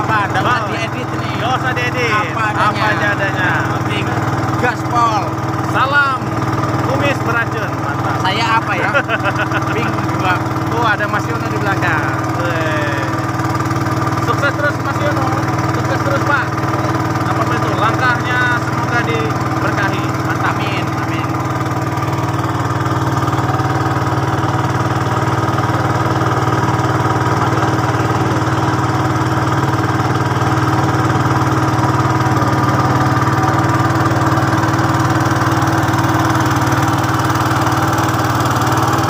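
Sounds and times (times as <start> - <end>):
boat motor droning: 0.0 - 39.0.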